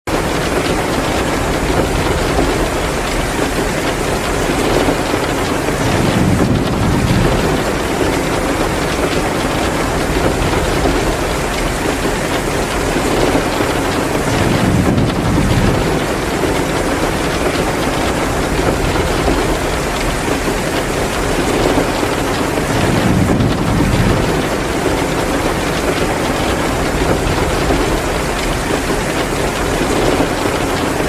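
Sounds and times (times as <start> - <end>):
heavy rain downpour: 0.0 - 31.0
wood fire crackling: 0.2 - 31.0.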